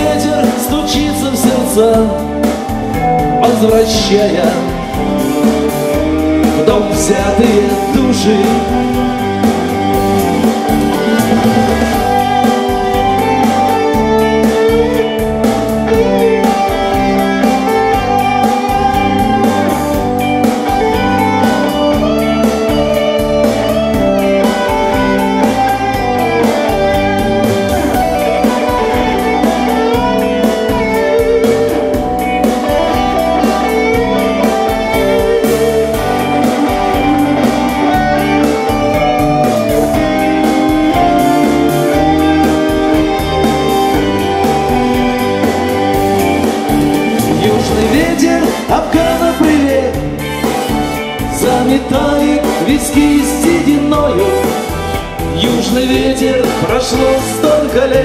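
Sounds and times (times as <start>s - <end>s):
band playing instrumental: 0.0s - 58.0s
guitar melody: 0.0s - 58.0s.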